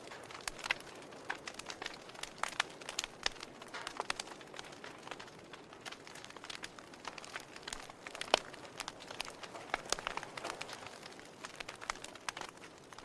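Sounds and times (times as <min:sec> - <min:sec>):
fire crackling: 0:00.0 - 0:13.0
sharp pops from fire: 0:00.0 - 0:13.0.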